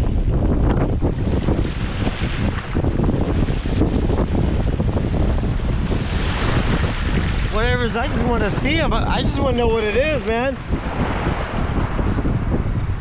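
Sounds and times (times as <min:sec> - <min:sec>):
ocean surf washing in: 0:00.0 - 0:13.0
wind buffeting microphone: 0:00.0 - 0:13.0.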